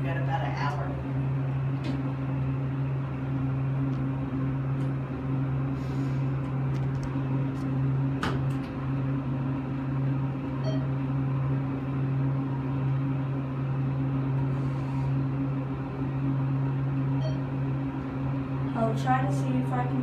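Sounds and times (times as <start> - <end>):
elevator electrical hum: 0.0 - 20.0.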